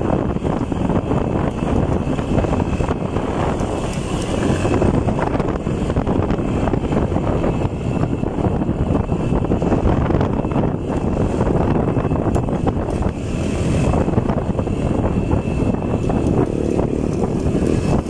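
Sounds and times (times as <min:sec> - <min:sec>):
motorcycle engine at speed: 0:00.0 - 0:18.0
wind buffeting microphone: 0:00.0 - 0:18.0.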